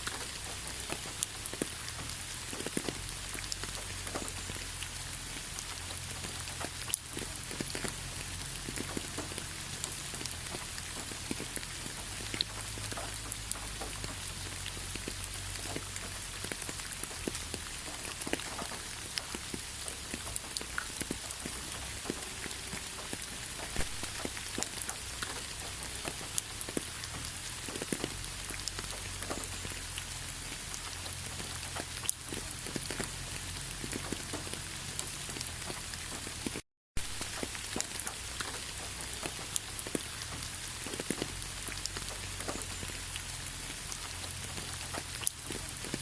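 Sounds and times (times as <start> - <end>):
raindrops pattering: 0.0 - 46.0
steady rain hiss: 0.0 - 46.0.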